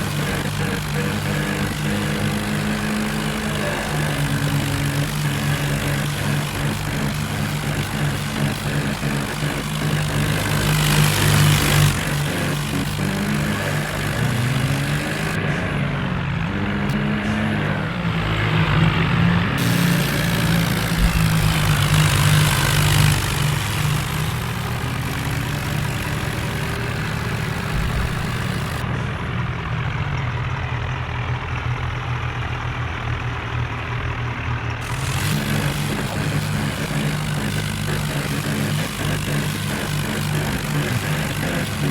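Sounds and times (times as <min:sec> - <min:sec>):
diesel tractor engines running: 0:00.0 - 0:41.9.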